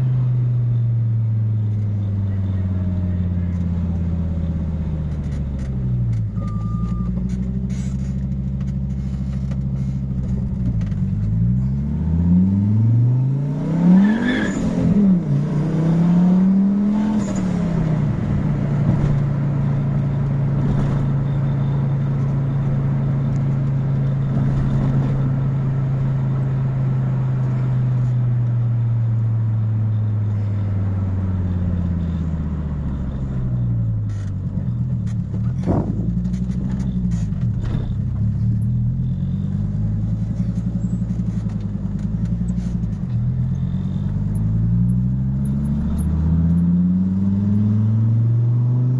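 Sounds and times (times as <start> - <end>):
car engine revving: 7.3 - 48.9.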